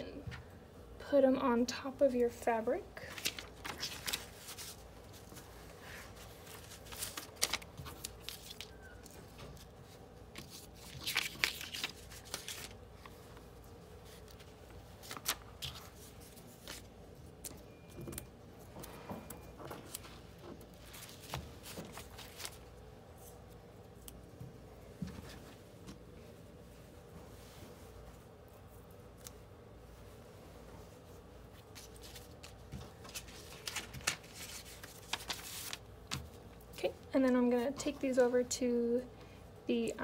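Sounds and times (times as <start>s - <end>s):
paper and fabric rustling: 2.2s - 17.4s, 18.6s - 38.5s.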